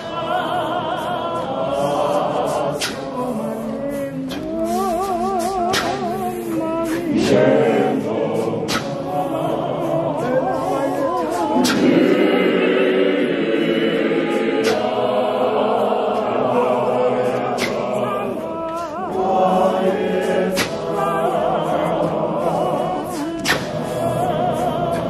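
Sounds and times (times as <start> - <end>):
women's choir singing a hymn: 0.0 - 25.0.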